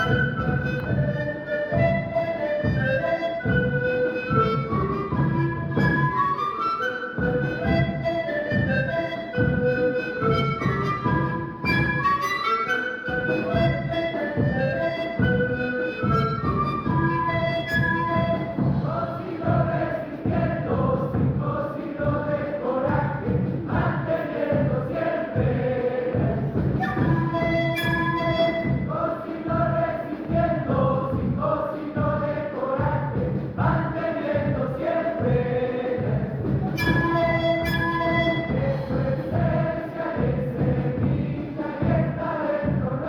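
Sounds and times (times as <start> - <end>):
andean folk orchestra playing: 0.0 - 21.9, 22.6 - 42.8.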